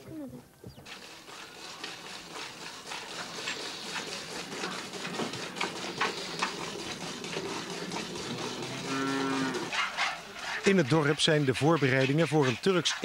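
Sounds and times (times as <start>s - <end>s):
milk squirting into metal pail: 0.9s - 13.0s.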